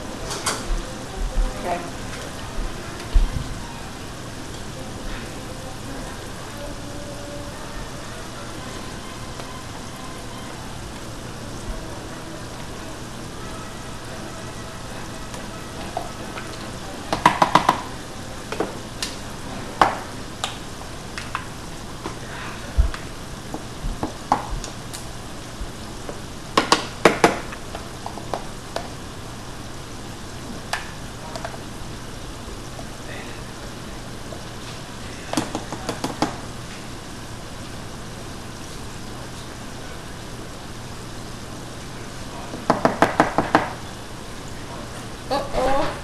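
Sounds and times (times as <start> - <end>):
fries sizzling in hot oil: 0.0 - 46.0.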